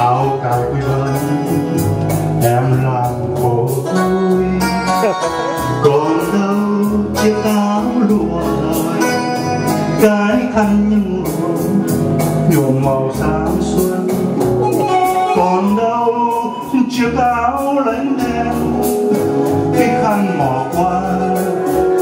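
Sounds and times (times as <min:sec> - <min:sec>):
song with singing: 0:00.0 - 0:22.0.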